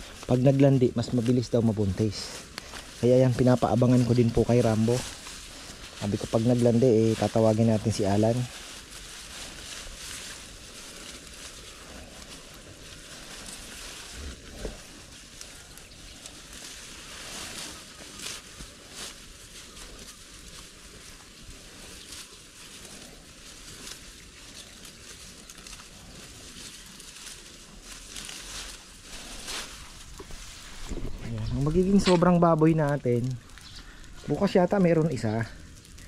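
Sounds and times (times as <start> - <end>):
steady hiss: 0.0 - 24.0, 25.1 - 36.0.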